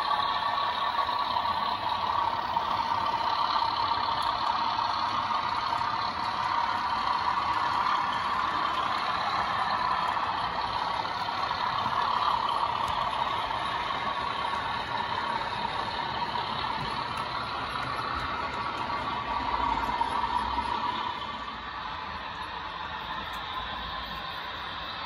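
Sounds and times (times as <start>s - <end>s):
model diesel engine through speaker: 0.0s - 25.0s.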